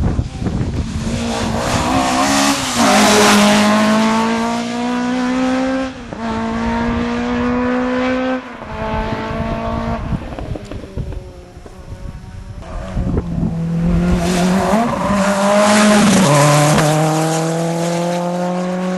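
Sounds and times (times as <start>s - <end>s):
rally car engine accelerating: 0.2s - 11.7s, 12.6s - 18.9s.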